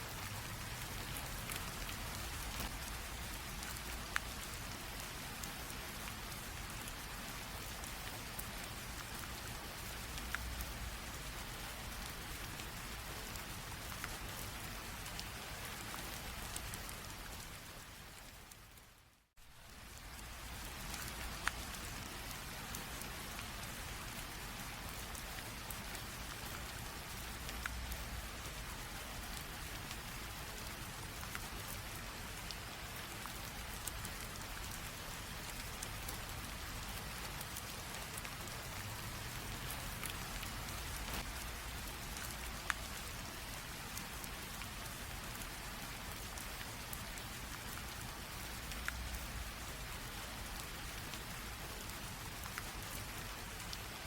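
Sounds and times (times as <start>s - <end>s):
light rain hissing: 0.0s - 54.0s.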